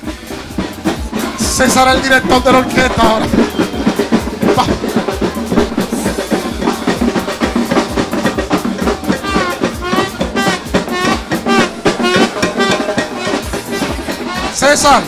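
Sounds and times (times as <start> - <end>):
brass and drum band playing: 0.0 - 15.0
wavering melody line: 0.6 - 15.0.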